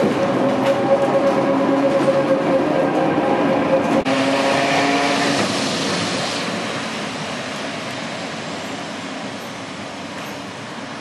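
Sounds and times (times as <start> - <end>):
tram running: 0.0 - 11.0.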